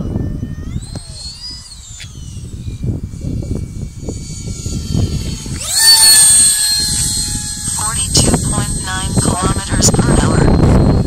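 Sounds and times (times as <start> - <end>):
model jet engine whining: 0.0 - 11.0.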